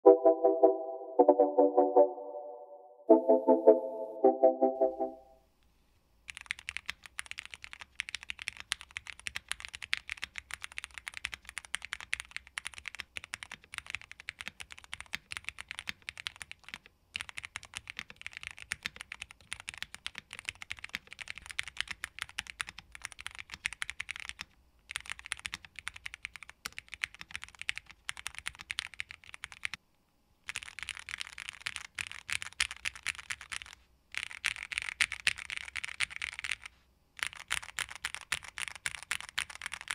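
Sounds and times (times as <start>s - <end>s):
fast typing on mechanical keyboard: 6.3s - 29.8s, 30.4s - 39.9s.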